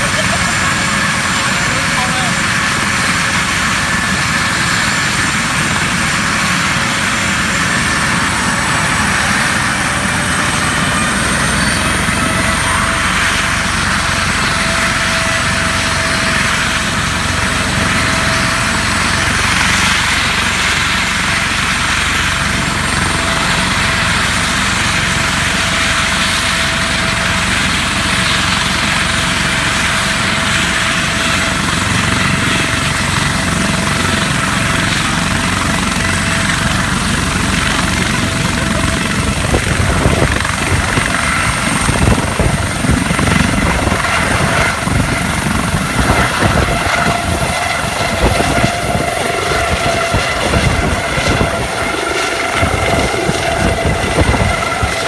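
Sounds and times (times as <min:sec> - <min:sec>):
airplane engines running: 0:00.0 - 0:55.0.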